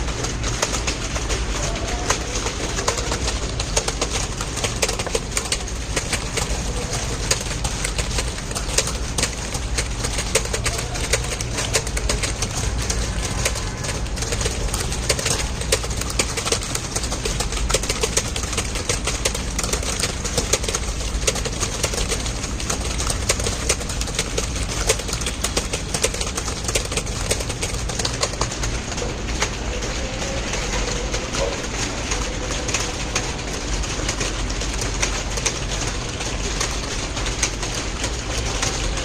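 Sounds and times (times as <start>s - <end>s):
fast keyboard typing: 0.0s - 39.0s.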